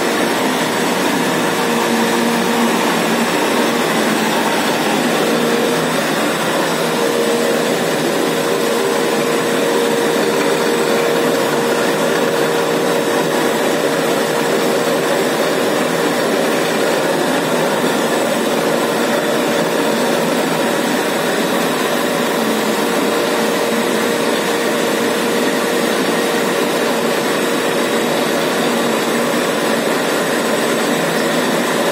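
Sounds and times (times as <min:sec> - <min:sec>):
mid-pitched machine whine: 0:00.0 - 0:31.9
printing machine drone: 0:00.0 - 0:31.9.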